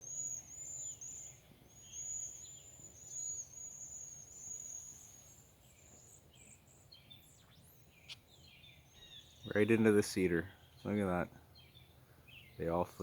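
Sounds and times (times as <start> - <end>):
flock of small birds calling: 0.0 - 13.0.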